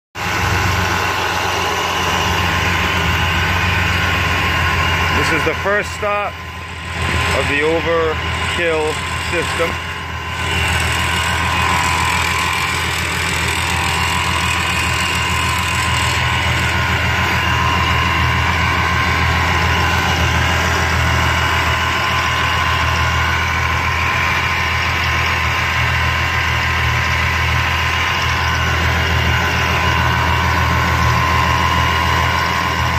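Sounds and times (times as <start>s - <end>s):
car engine idling: 0.2s - 32.9s.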